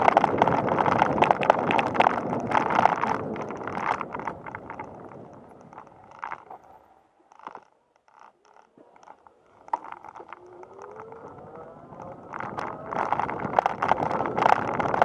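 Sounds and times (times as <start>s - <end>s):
bicycle clicks and rattles: 0.0s - 15.0s.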